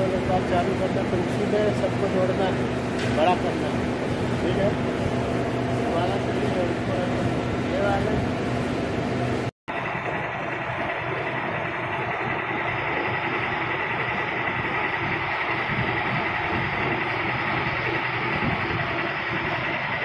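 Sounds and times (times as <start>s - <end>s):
printing machine rattling: 0.0s - 8.3s, 9.7s - 20.0s.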